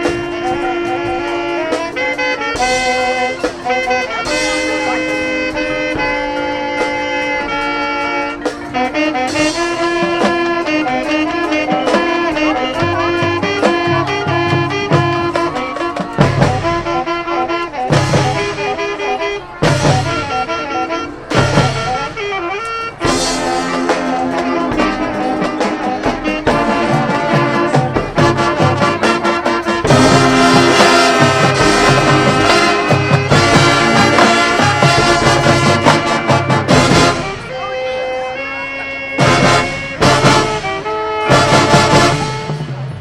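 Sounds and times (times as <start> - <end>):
low drums beating: 0.0 - 37.6, 39.1 - 43.0
marching band playing: 0.0 - 43.0.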